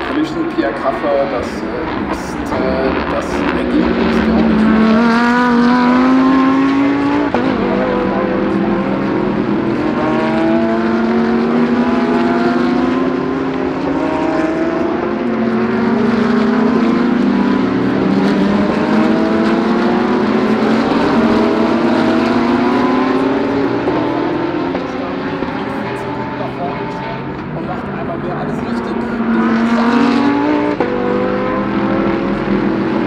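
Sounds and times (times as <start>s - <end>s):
race car engines accelerating: 0.0s - 33.0s.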